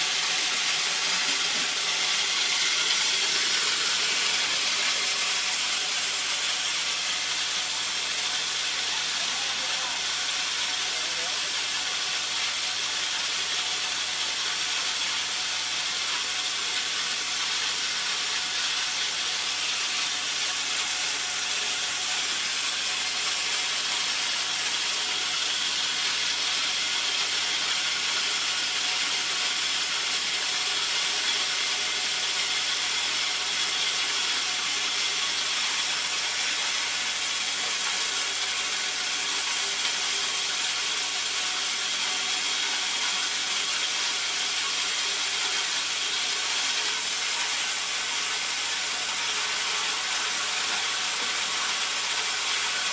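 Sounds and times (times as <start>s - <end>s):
electric mill grinding corn: 0.0s - 52.9s.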